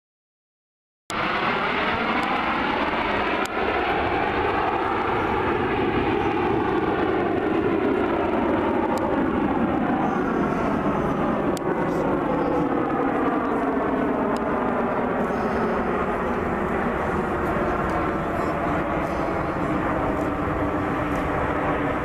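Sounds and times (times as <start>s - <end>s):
jets flying overhead: 1.1s - 22.0s.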